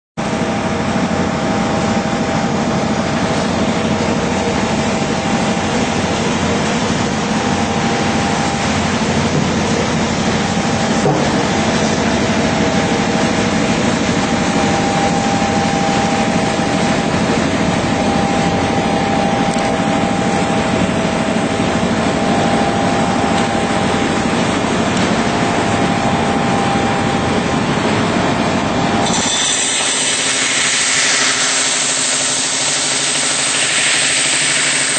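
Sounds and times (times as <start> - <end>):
deburring machine humming: 0.2 - 34.9.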